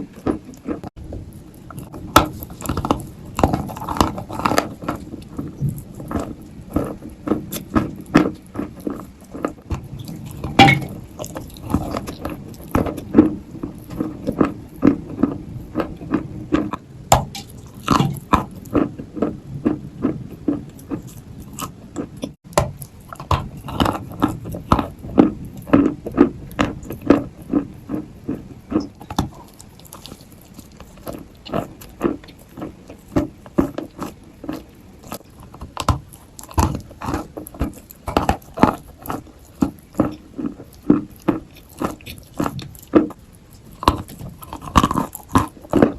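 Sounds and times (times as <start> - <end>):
chewing crunchy clay: 0.0 - 45.9.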